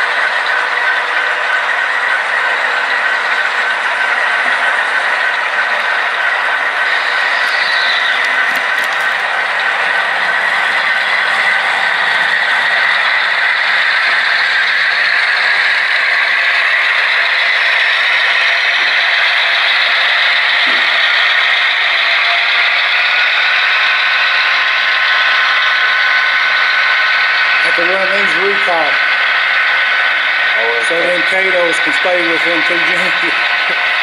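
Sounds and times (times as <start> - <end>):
model train wheels rolling: 0.0 - 34.0.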